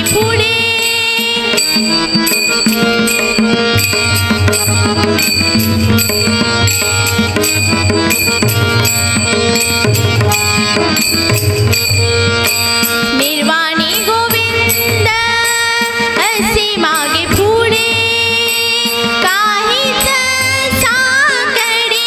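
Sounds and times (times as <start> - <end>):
hand drums steady beat: 1.2 - 19.5.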